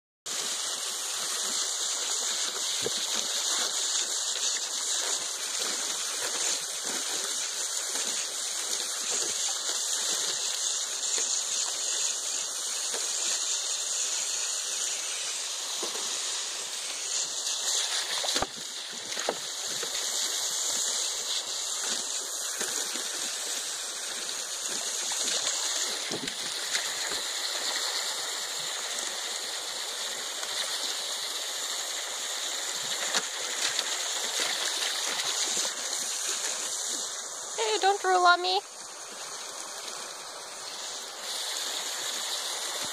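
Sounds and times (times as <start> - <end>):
hose water rushing into pool: 0.2 - 42.9
puppy paws splashing water: 0.3 - 42.9.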